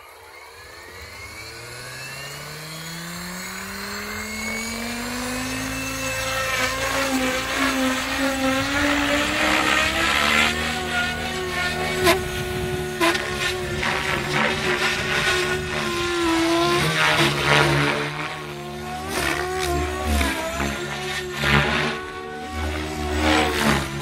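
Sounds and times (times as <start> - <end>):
model helicopter rotor whine: 0.0 - 24.0.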